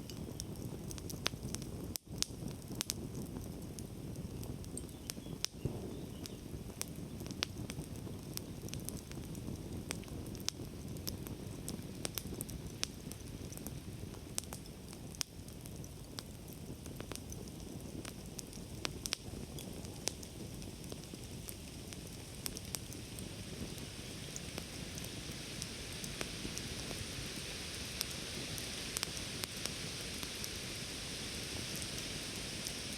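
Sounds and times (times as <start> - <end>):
campfire crackling and popping: 0.0 - 32.9
low rush of burning flames: 0.0 - 32.9.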